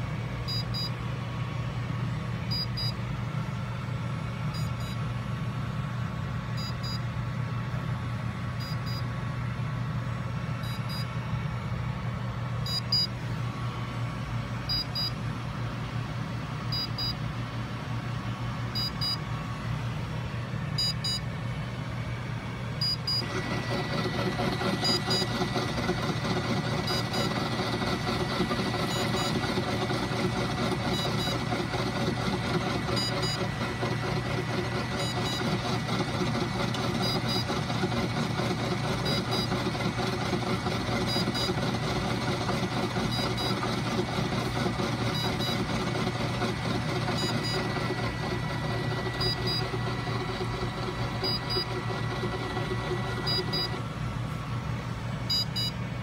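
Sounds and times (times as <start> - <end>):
constant high whine: 0.0 - 56.0
printer machine hum: 0.0 - 56.0.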